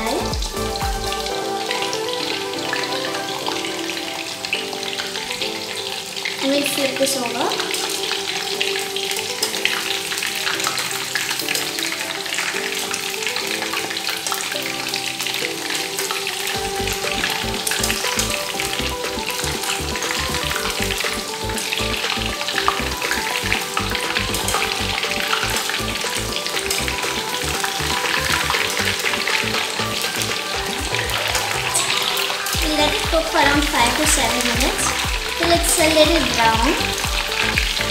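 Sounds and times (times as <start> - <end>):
chicken deep-frying in oil: 0.0 - 37.9.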